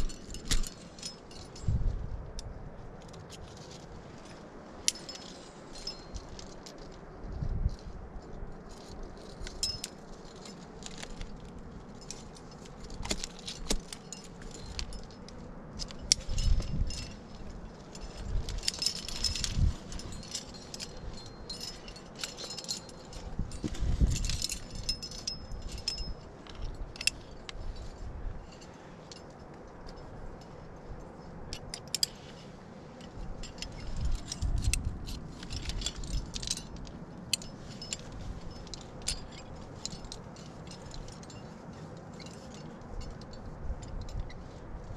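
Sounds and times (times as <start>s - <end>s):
carabiners clinking: 0.0s - 44.9s.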